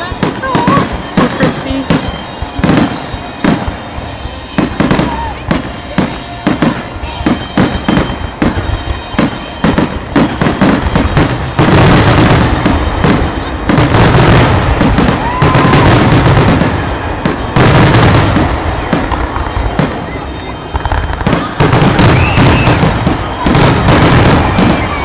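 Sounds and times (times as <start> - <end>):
firework explosions: 0.0 - 25.0
firework whistle: 0.0 - 25.0.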